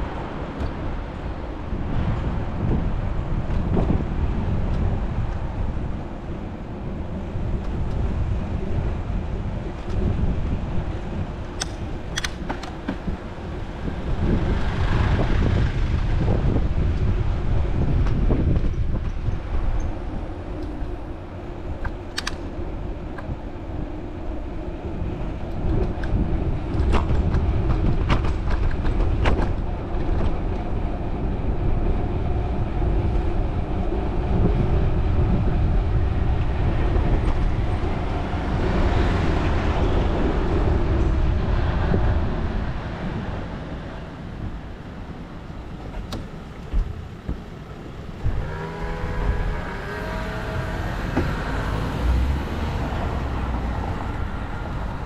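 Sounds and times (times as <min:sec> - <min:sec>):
traffic passing: 0:00.0 - 0:55.0
wind rumble on microphone: 0:00.0 - 0:55.0.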